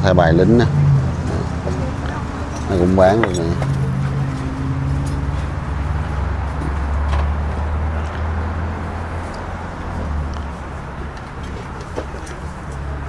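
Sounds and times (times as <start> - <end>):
market background noise: 0.0 - 13.0.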